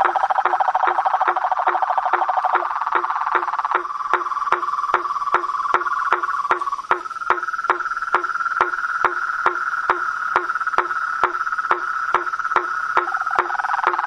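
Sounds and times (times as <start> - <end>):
frog clicks: 0.0 - 14.0
frogs trilling: 0.0 - 14.0.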